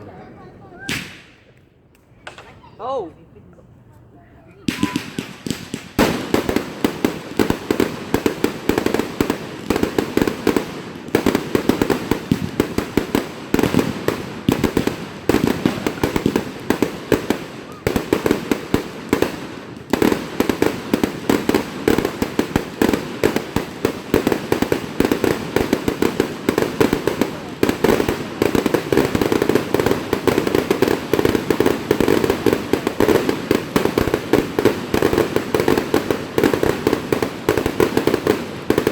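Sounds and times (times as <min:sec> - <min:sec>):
fireworks popping and banging: 0:00.8 - 0:02.7, 0:04.6 - 0:38.9.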